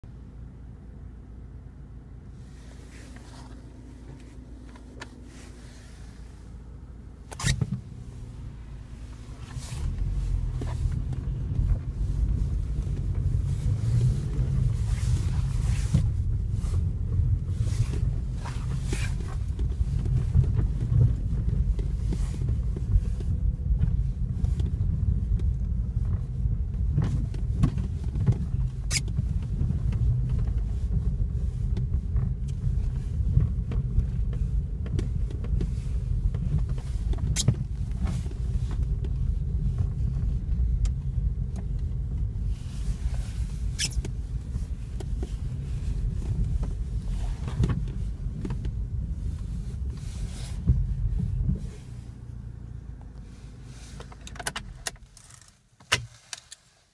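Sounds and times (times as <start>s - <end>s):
car engine and tyres rumbling: 0.0s - 56.9s
car engine idling: 0.1s - 55.5s.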